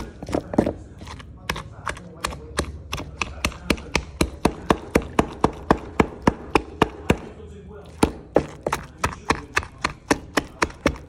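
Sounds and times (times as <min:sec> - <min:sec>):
wooden pestle pounding in mortar: 0:00.0 - 0:11.0.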